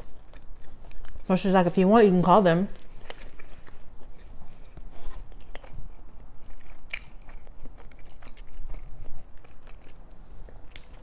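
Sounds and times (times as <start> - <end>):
person chewing food: 0.0 - 1.3, 2.7 - 11.0.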